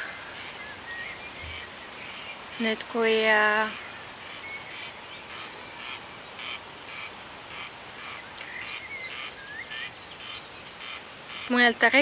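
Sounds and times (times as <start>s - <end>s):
bird coarse calls: 0.0s - 12.0s
small birds chirping and whistling: 0.0s - 12.0s.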